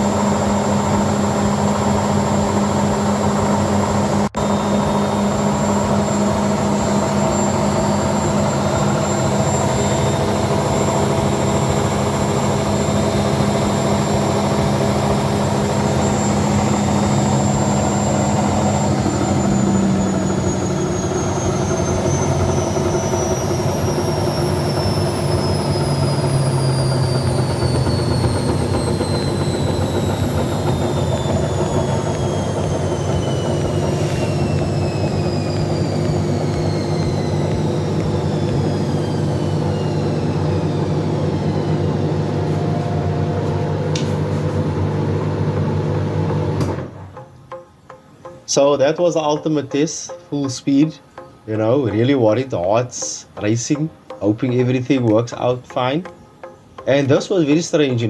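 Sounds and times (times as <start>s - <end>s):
high whine falling in pitch: 0.0s - 58.0s
washing machine drum spinning: 0.0s - 58.0s.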